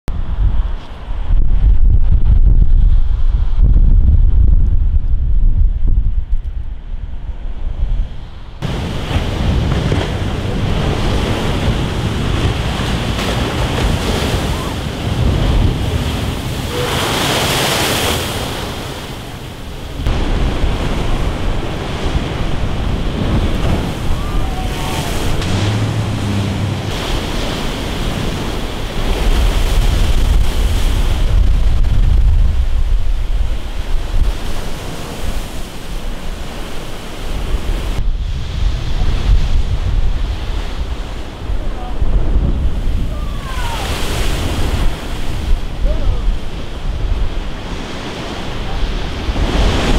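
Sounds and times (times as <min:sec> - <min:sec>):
wind buffeting microphone: 0:00.1 - 0:49.9
wave crash: 0:08.2 - 0:49.9
surf breaking against sea wall: 0:08.6 - 0:49.9.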